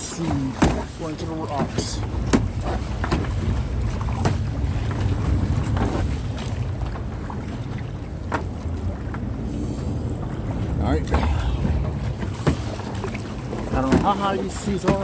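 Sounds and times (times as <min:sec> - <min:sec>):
paddle splashes in water: 0:00.0 - 0:15.0
wind buffeting microphone: 0:00.5 - 0:15.0.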